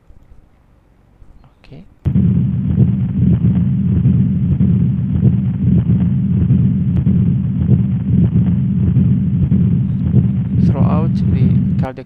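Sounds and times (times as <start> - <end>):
heart murmur through stethoscope: 2.1 - 12.0.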